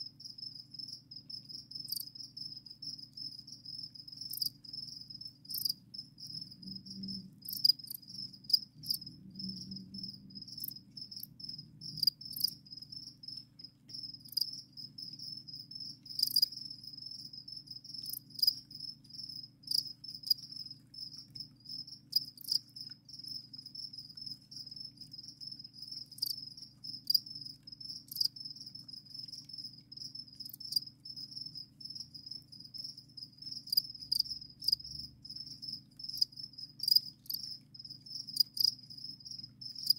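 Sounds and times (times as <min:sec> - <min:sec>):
crickets chirping: 0:00.0 - 0:39.9
low steady hum: 0:01.5 - 0:39.8.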